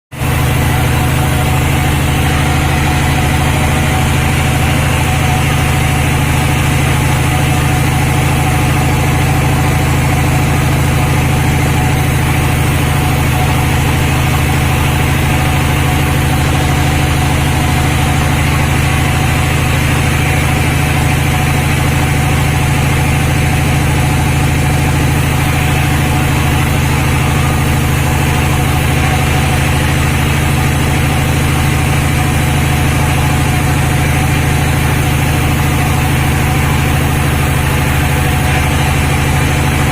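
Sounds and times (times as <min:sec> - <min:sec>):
sawmill machinery drone: 0:00.1 - 0:39.9.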